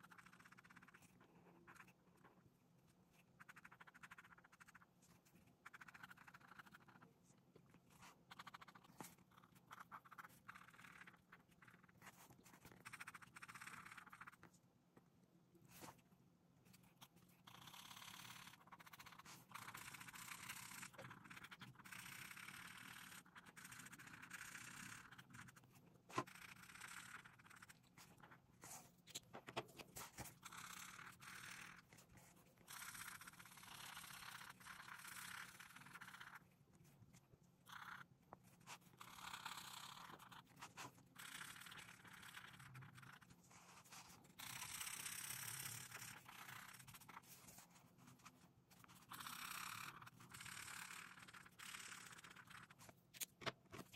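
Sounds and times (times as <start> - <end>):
marker scratching on paper: 0.0 - 2.4, 3.0 - 14.6, 15.7 - 16.0, 16.6 - 53.9.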